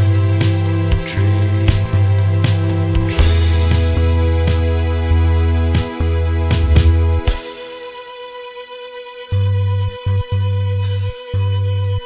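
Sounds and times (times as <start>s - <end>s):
guitar: 0.0s - 12.0s
low bass notes: 0.0s - 12.0s.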